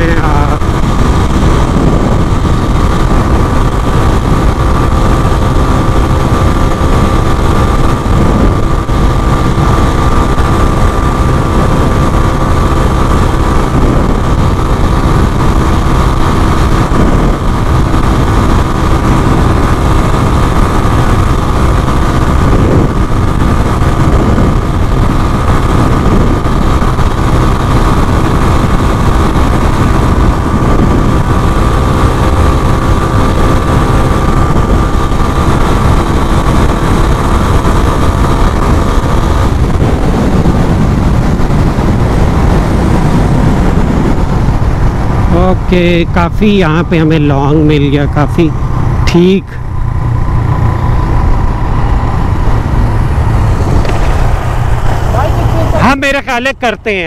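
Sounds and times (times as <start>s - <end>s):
heavy wind rushing: 0.0s - 57.0s
motorcycle engine running: 0.0s - 57.0s.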